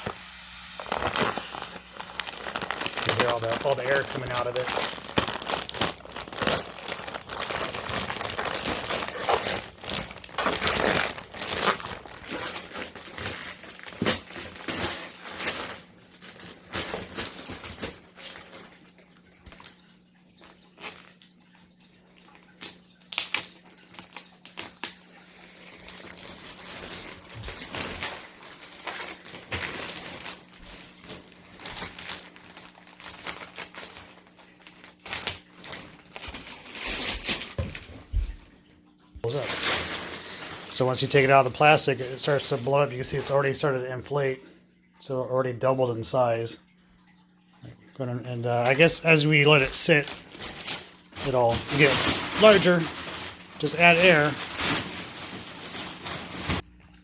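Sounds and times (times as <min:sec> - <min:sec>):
plastic wrapping crinkling: 0:00.0 - 0:21.6, 0:22.2 - 0:44.3, 0:47.1 - 0:57.0.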